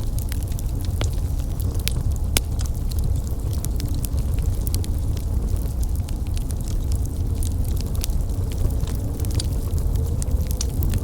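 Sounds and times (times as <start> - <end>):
fire pops and crackles: 0.0 - 11.0
low rumble of flames: 0.0 - 11.0.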